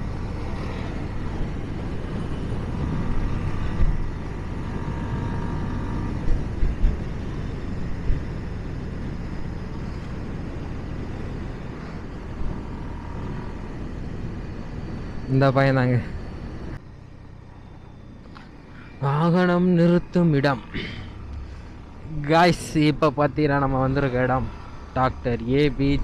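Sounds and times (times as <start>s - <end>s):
motorcycle engine: 0.0s - 26.0s
wind and road noise: 0.0s - 26.0s.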